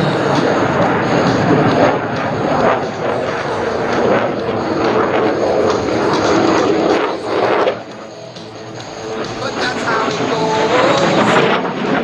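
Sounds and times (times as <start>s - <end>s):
fighter jet engine roar: 0.0s - 12.0s.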